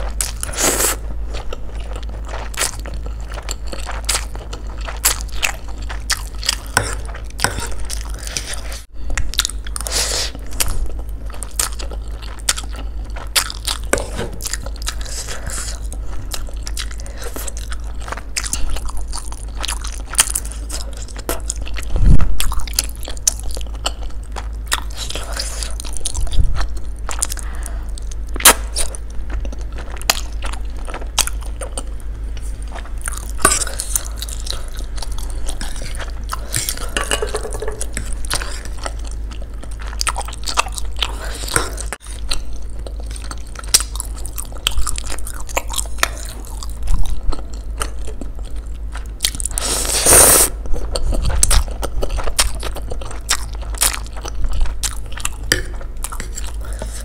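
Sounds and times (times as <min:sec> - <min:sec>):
chewing noodles wet mouth sounds: 0:00.0 - 0:57.0.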